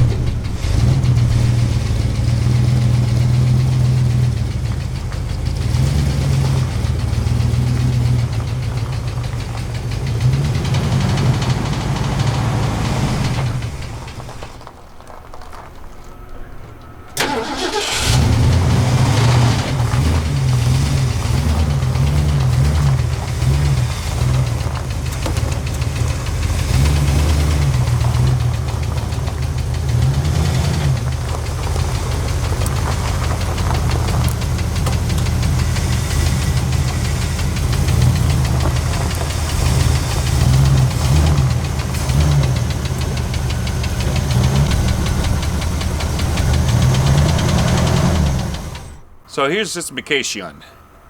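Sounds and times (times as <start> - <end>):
engine running with rapid knock: 0.0 - 49.2.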